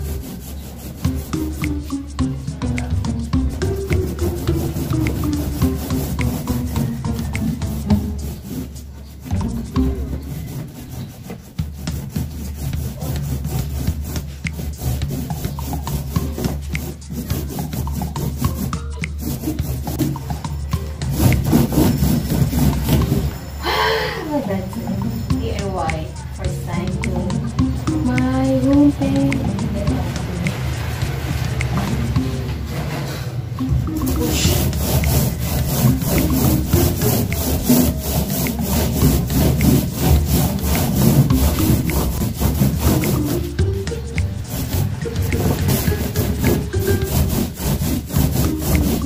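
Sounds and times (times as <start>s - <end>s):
paintbrush scrubbing on wood: 0.0s - 23.4s, 24.5s - 27.3s, 33.6s - 49.0s
background music: 0.0s - 49.0s.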